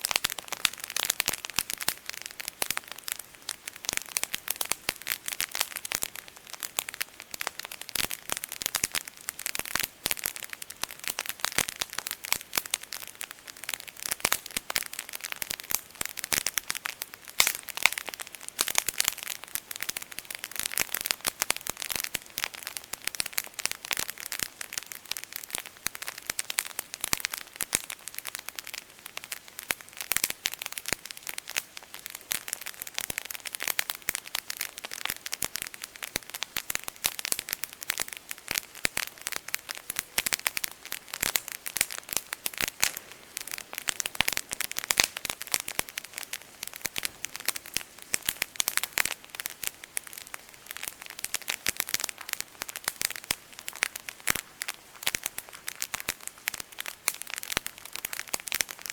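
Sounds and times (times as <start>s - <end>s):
campfire crackling: 0.0s - 58.9s.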